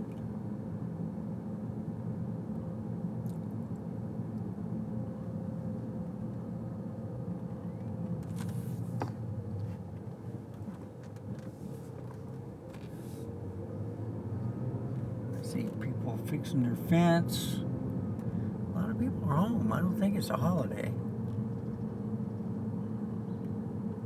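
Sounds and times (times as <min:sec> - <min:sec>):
car road rumble from inside: 0:00.0 - 0:24.0.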